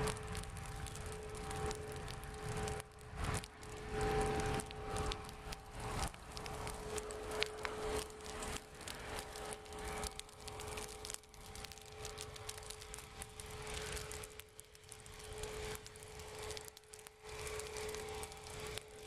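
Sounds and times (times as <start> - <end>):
dry grass crackling as it burns: 0.0 - 19.0
steady hum: 0.0 - 19.0.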